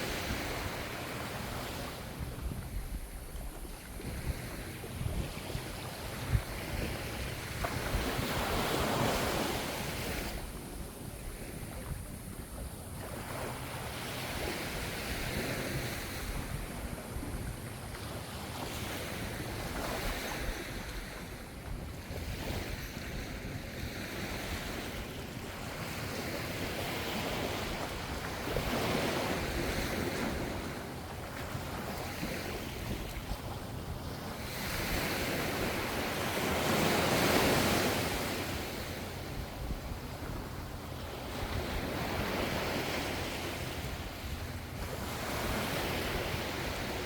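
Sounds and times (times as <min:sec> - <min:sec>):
ocean waves breaking on shore: 0:00.0 - 0:47.0.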